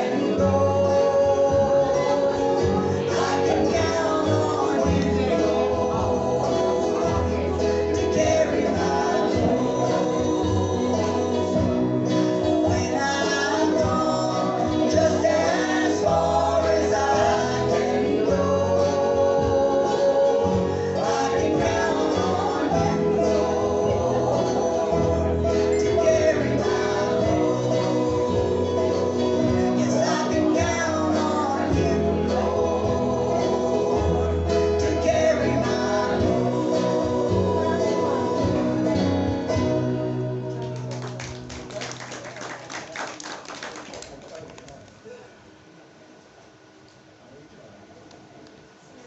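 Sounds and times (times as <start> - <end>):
group singing: 0.0 - 40.9
acoustic guitar: 0.0 - 42.4.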